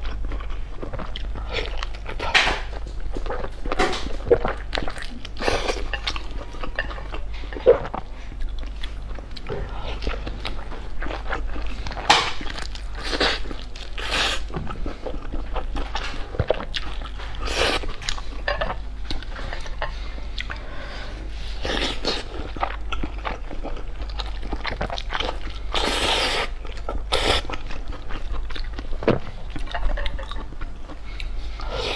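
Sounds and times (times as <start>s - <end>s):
wet chewing: 0.0s - 31.9s.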